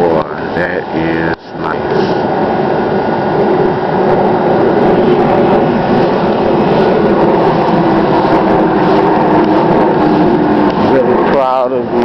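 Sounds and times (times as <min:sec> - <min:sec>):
loud mechanical noise with hum: 0:00.0 - 0:12.0.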